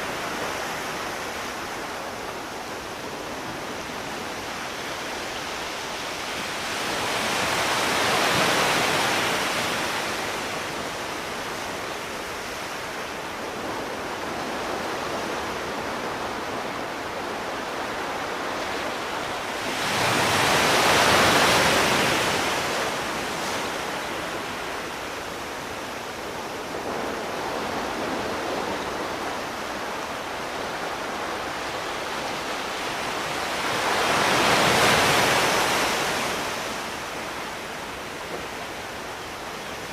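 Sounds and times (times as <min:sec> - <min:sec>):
sea surf waves: 0:00.0 - 0:39.9.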